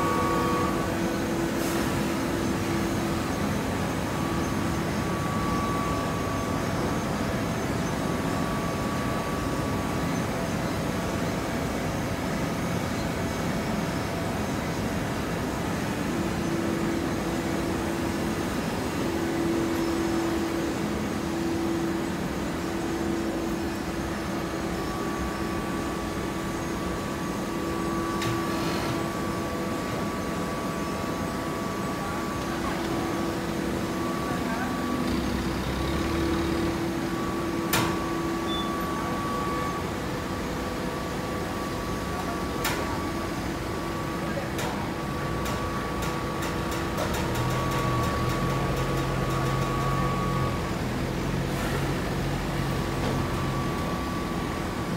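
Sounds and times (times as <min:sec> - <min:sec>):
baling press mechanical hum: 0:00.0 - 0:54.9
machine whine: 0:00.0 - 0:54.9.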